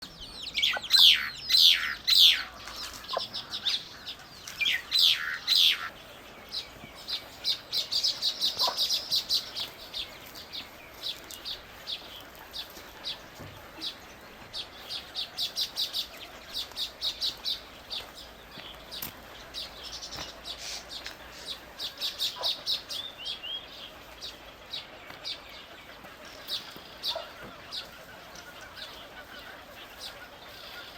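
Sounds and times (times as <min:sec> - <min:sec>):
small birds singing and chirping: 0:00.0 - 0:30.9.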